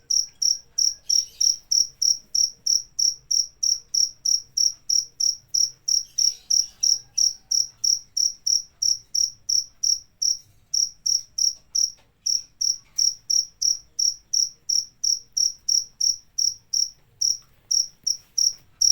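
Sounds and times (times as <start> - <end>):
cricket chirping: 0.0 - 18.9.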